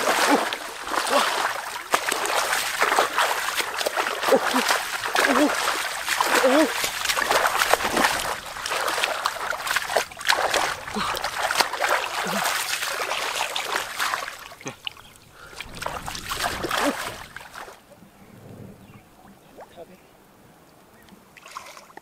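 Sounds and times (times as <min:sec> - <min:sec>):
water splashing and sloshing: 0:00.0 - 0:18.2, 0:20.7 - 0:22.0.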